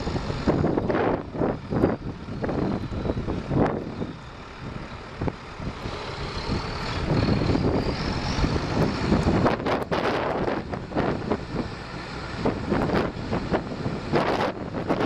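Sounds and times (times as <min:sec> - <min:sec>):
tractor diesel engine running: 0:00.0 - 0:15.0
wind buffeting microphone: 0:00.0 - 0:15.0.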